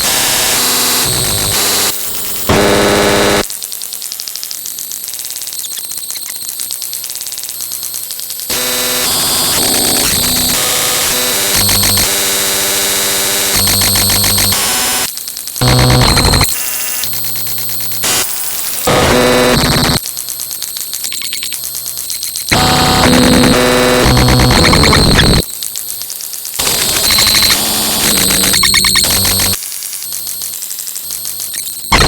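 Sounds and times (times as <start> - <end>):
harsh electronic static and buzzing: 0.0 - 32.0.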